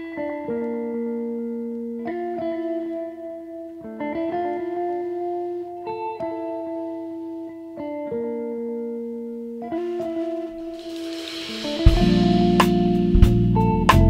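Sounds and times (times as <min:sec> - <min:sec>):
slow held chords music: 0:00.0 - 0:14.0.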